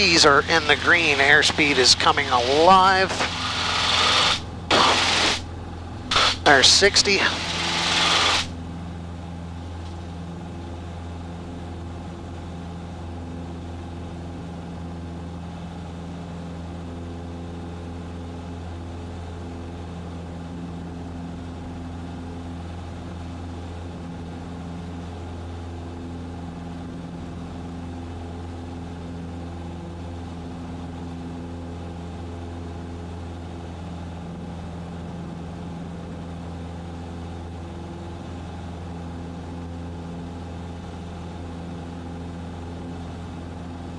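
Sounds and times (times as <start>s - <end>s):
airplane engine and propeller drone: 0.0s - 43.9s.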